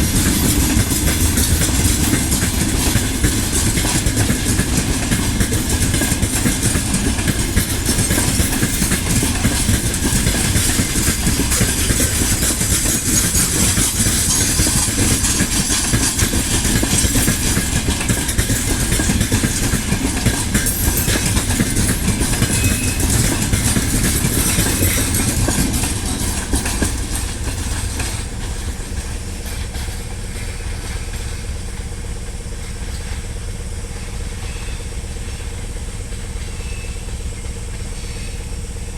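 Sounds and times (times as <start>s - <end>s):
freight train running on rails: 0.0s - 38.9s
steady locomotive hum: 0.0s - 38.9s.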